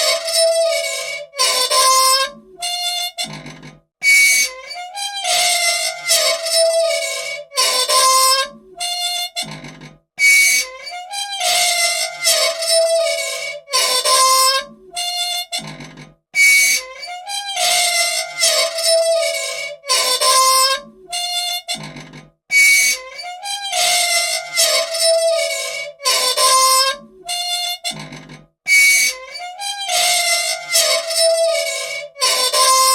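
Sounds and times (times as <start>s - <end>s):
old machine squealing: 0.0s - 32.9s.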